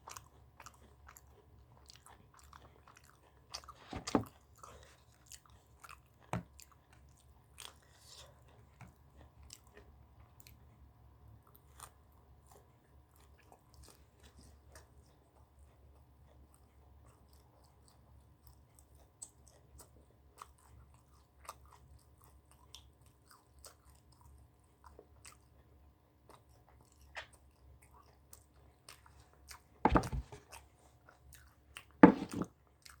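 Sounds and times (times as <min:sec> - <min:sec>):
person chewing food: 0:00.1 - 0:10.6, 0:11.5 - 0:29.6, 0:30.3 - 0:33.0.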